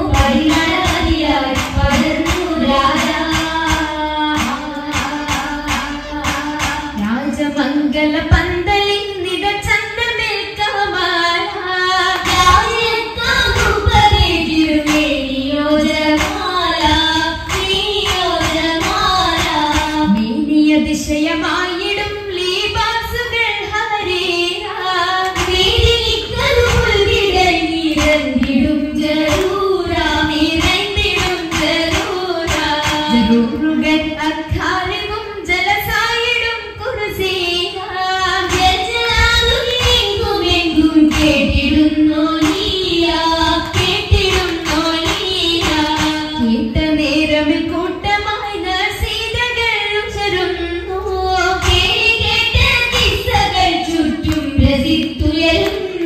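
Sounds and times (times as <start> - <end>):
girls singing in unison: 0.0 - 56.0.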